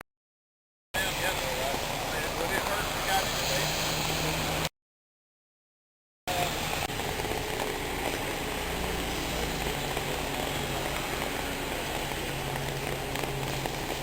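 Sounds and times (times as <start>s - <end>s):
floodwater rushing: 1.0s - 4.7s, 6.4s - 14.0s.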